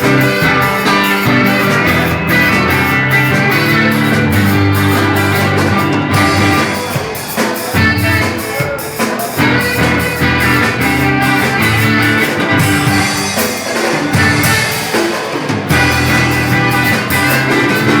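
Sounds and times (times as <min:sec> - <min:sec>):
saxophone: 0:00.0 - 0:18.0
worship band playing upbeat song: 0:00.0 - 0:18.0.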